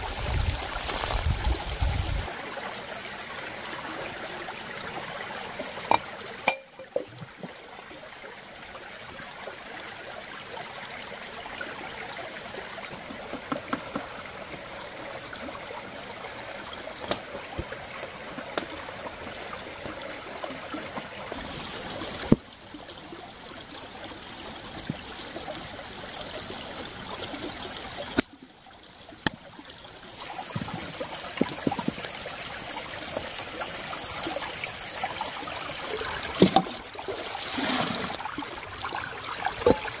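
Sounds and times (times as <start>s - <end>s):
stream running over rocks: 0.0s - 40.0s.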